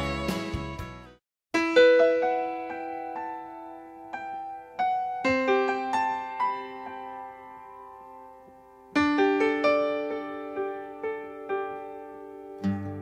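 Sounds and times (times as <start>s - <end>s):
solo piano playing slowly: 1.6s - 13.0s.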